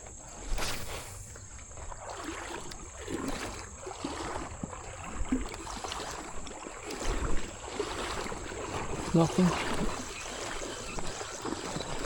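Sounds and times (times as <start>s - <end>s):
creek water moving: 0.0s - 12.0s
small splashes: 0.1s - 12.0s.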